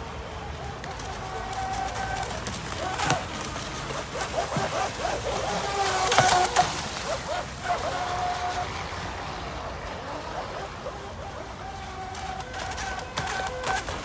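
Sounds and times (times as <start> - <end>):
hull slapping water: 0.0 - 14.0
model boat motor running: 0.0 - 14.0
sharp splashes: 0.6 - 14.0.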